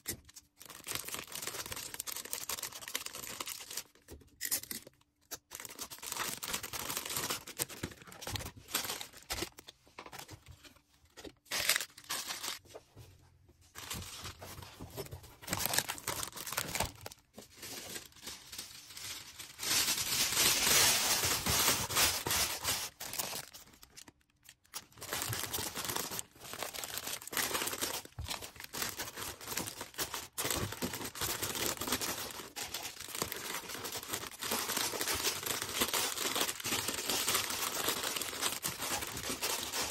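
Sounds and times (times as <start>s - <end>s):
packing materials crinkling: 0.3s - 12.6s, 13.7s - 39.9s.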